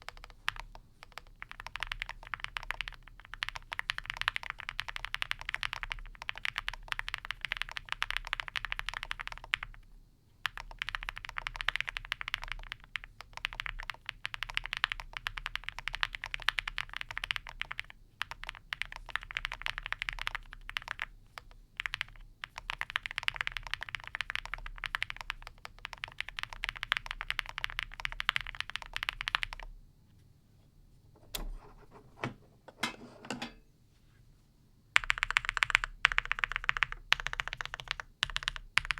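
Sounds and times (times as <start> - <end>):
mechanical keyboard typing: 0.0 - 9.8, 10.4 - 29.7, 35.0 - 38.9.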